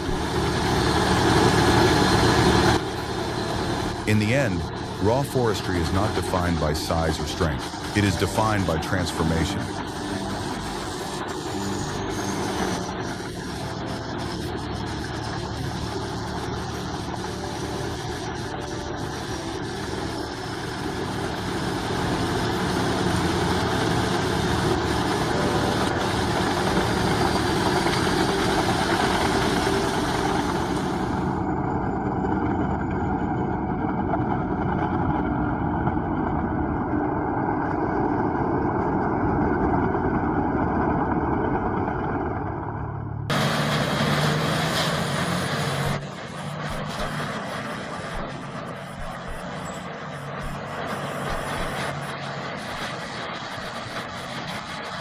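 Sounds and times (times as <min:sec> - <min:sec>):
heavy machinery engine running: 0:00.0 - 0:55.0.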